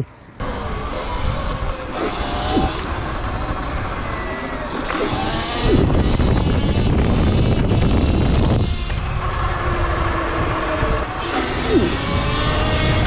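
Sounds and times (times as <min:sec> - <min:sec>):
wind buffeting microphone: 0:00.4 - 0:13.0.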